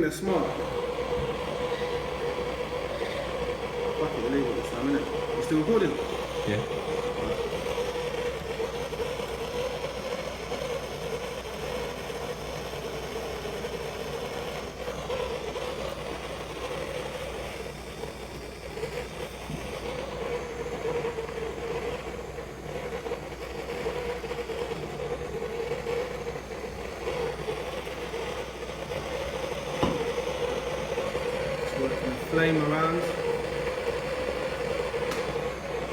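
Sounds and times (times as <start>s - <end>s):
blowtorch flame rushing: 0.0s - 35.9s.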